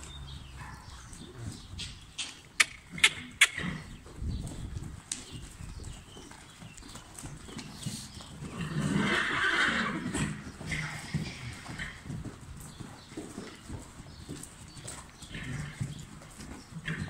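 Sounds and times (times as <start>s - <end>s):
hoofbeats in sand: 0.0s - 17.0s.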